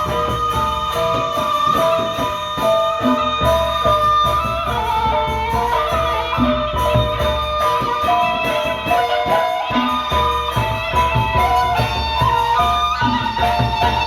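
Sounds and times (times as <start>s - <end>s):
drum and cymbal beat: 0.0s - 14.0s
ringing metallic melody: 0.0s - 14.0s.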